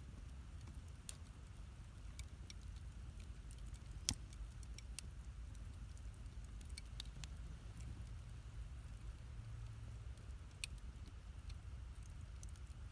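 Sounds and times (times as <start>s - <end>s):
campfire crackling and popping: 0.0s - 12.9s
low steady rumble: 0.0s - 12.9s.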